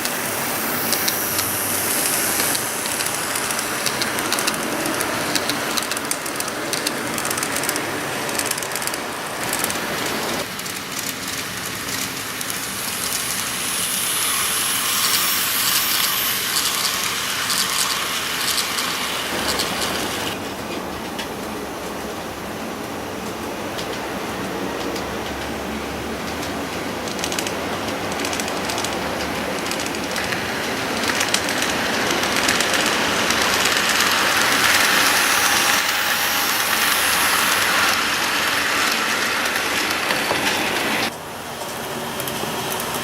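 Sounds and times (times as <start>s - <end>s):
wheels clicking over track: 0.0s - 22.2s, 22.8s - 43.0s
electric train passing: 0.0s - 43.0s.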